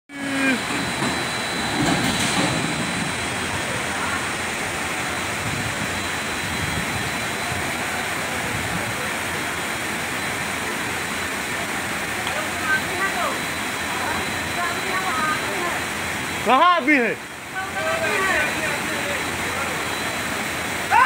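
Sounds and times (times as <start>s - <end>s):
heavy rain: 0.1s - 21.0s
rushing floodwater: 0.1s - 21.0s.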